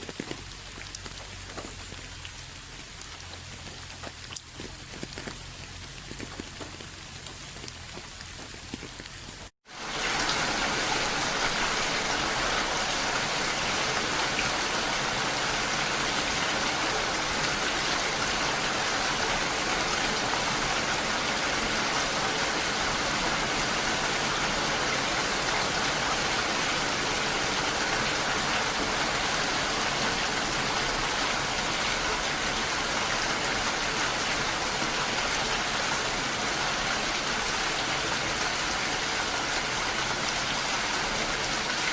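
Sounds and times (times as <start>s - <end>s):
heavy rainfall: 0.0s - 41.9s.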